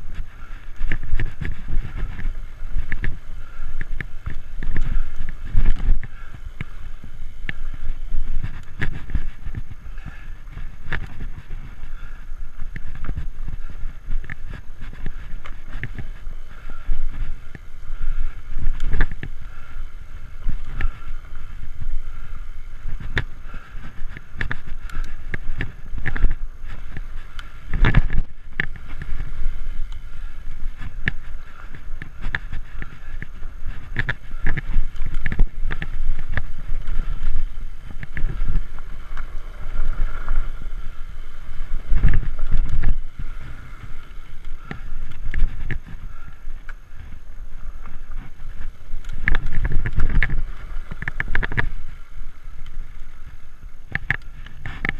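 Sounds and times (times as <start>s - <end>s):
bike rattling over bumps: 0.0s - 54.9s
bike tyre rumble on dirt: 0.0s - 54.9s
wind on microphone: 0.0s - 54.9s.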